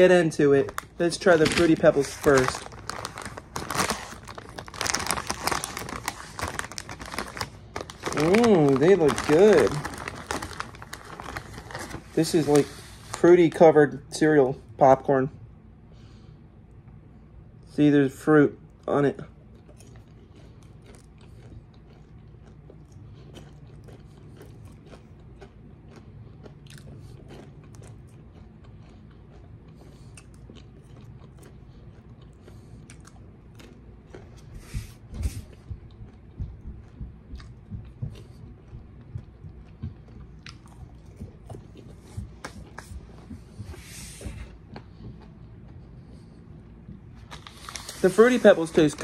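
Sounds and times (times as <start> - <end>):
chewing and crunching popcorn: 0.0 - 15.0, 17.6 - 49.0.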